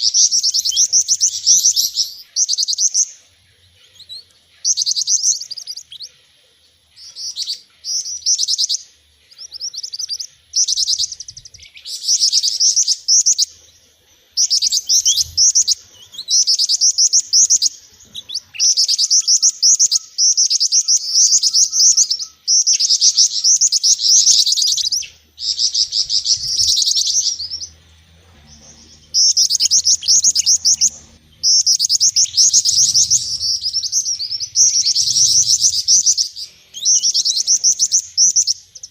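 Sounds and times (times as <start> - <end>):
small songbirds twittering: 0.0 - 38.9.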